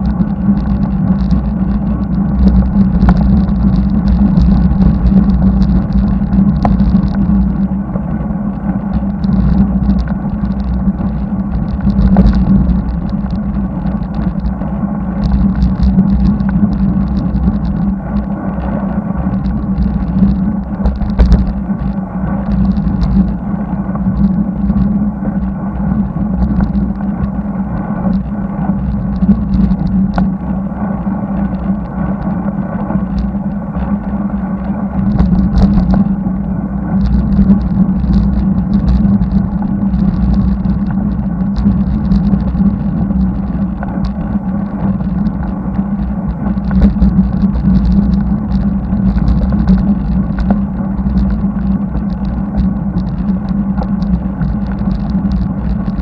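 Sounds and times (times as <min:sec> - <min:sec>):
light ticks: 0:00.0 - 0:07.7, 0:08.5 - 0:30.4, 0:31.4 - 0:56.0
wind rumble: 0:00.0 - 0:56.0.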